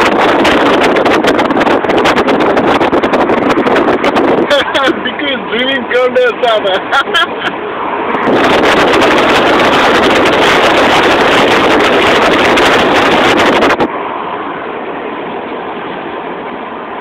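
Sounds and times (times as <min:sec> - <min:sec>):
road noise inside car: 0:00.0 - 0:17.0
wind buffeting microphone: 0:00.0 - 0:17.0.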